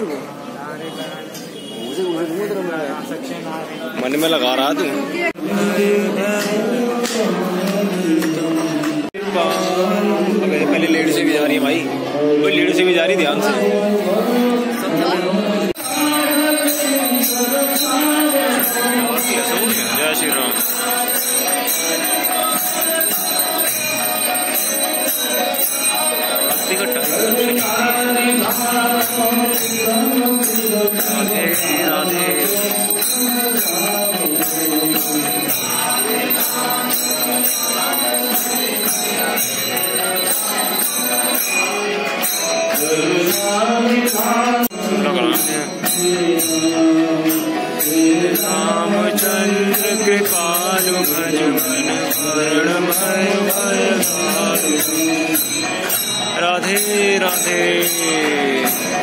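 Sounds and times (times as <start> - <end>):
devotional chanting: 5.3 - 59.0
jingling metal percussion: 5.8 - 10.1, 15.7 - 59.0.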